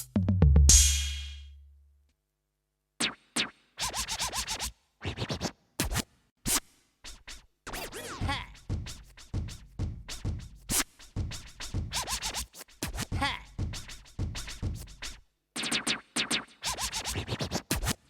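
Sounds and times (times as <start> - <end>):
turntable scratch samples: 3.0 - 18.0.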